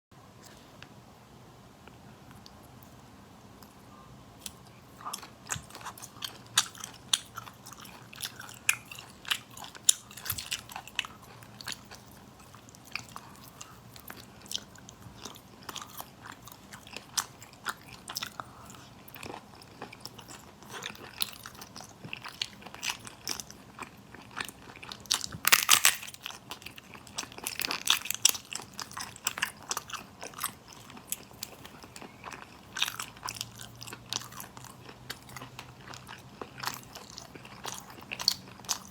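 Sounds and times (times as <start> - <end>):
crunching and chewing: 4.4 - 38.9.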